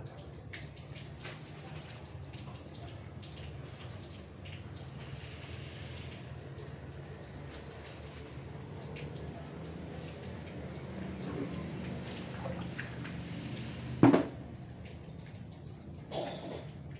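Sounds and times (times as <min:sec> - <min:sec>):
cats lapping and chewing food: 0:00.0 - 0:16.9.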